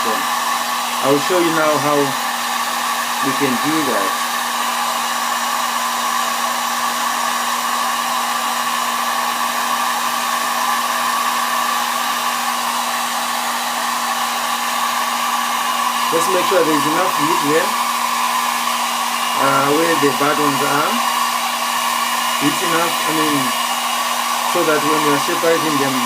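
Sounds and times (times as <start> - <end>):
hot-air blower running: 0.0 - 26.0.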